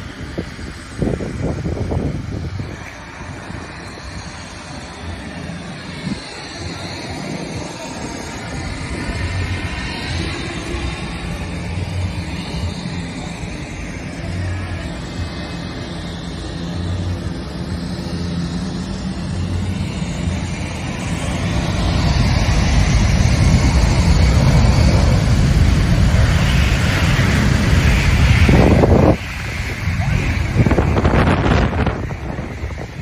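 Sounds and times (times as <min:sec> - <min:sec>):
wind buffeting microphone: 0:00.0 - 0:15.7, 0:19.2 - 0:33.0
jet engines roaring: 0:00.0 - 0:33.0.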